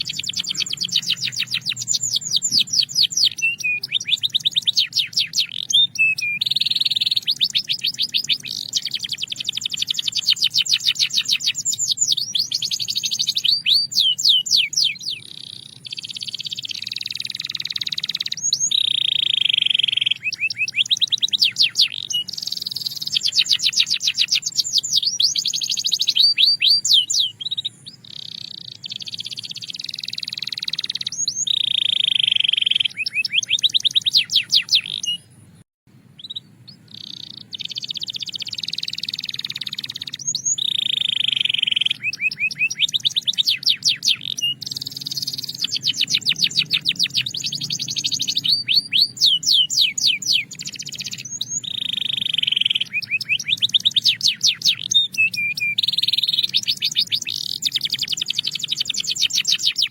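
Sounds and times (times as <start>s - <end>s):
canary singing trills and whistles: 0.0s - 59.9s.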